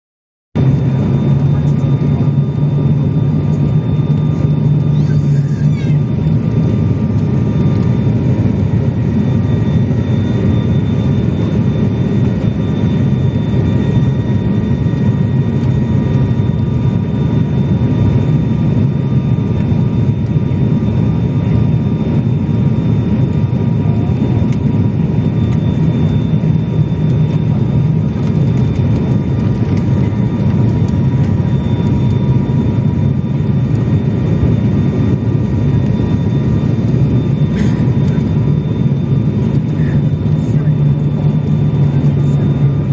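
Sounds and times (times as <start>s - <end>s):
airliner cabin engine drone: 0.6s - 42.9s
thin steady whine: 0.6s - 42.9s.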